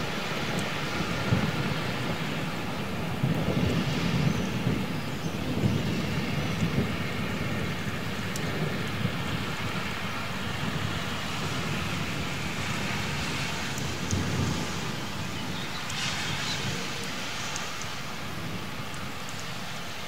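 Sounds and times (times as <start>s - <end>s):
raindrops ticking close by: 0.0s - 20.0s
rolling thunder rumble: 0.0s - 20.0s
steady rain: 0.0s - 20.0s.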